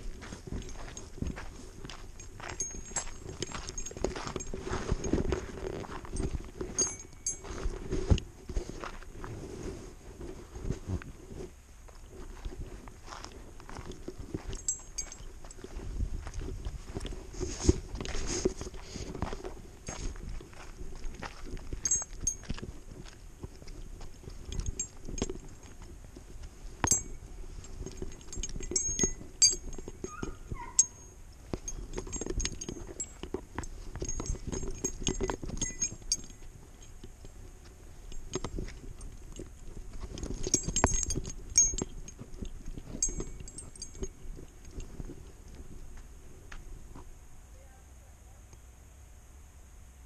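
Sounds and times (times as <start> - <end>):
metal tags jingling: 0.0 - 8.7, 13.7 - 46.0.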